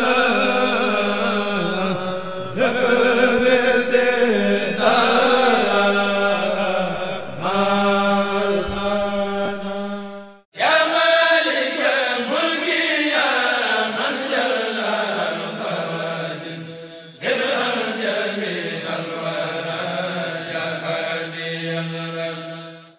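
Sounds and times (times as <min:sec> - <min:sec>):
men chanting in unison: 0:00.0 - 0:22.9.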